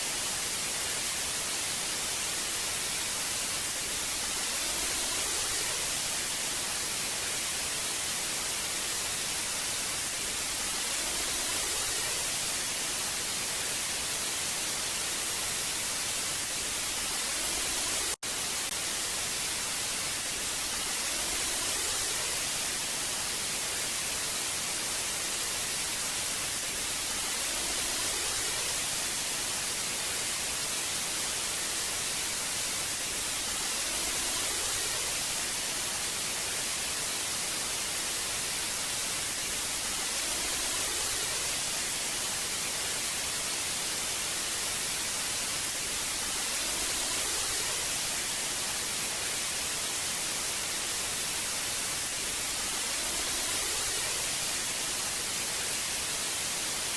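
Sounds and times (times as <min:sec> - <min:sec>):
tv static hiss: 0:00.0 - 0:56.9.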